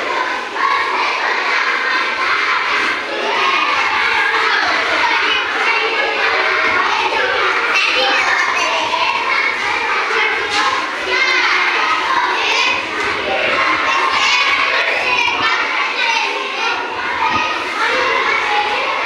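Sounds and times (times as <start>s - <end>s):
children talking and calling out: 0.0s - 19.0s.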